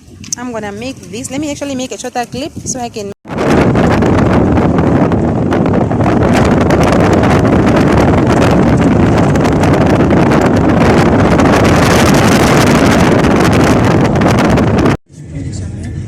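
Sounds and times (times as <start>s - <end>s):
strong wind on microphone: 0.0s - 16.0s.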